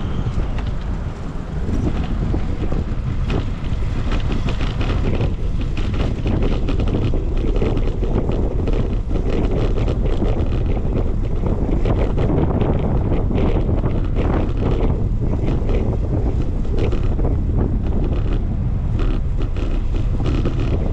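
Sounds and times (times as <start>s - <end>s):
wind buffeting microphone: 0.0s - 20.9s
small knocks and rattles: 1.7s - 18.4s.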